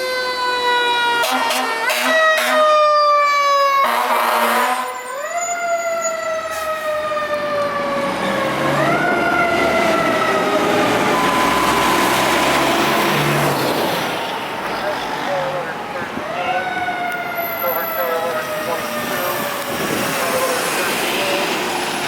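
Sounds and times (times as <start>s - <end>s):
mechanical fire engine siren: 0.0s - 21.8s
road noise: 0.0s - 22.0s
truck engine: 3.9s - 22.0s.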